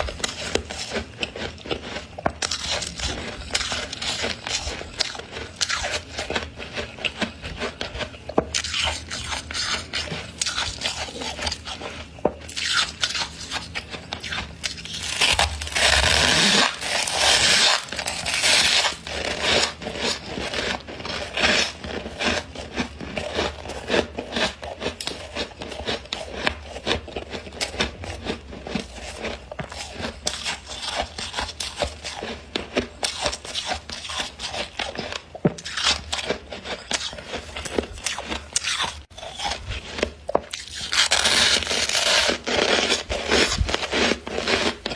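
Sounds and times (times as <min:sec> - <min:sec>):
metal spoon scraping frost: 0:00.0 - 0:44.9.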